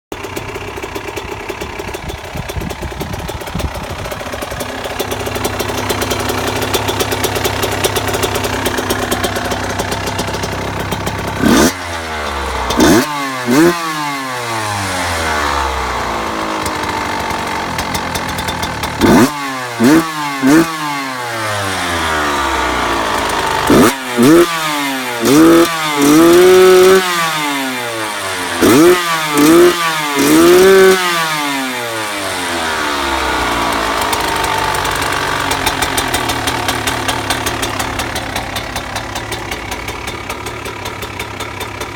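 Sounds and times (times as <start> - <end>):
two-stroke engine idling and revving: 0.0 - 41.9.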